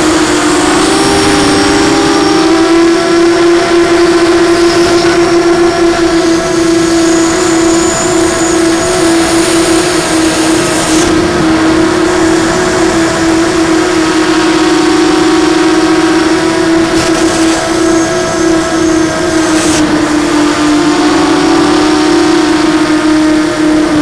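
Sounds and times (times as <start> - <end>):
quadcopter motors and propellers: 0.0 - 24.0
thin high whine: 0.0 - 24.0.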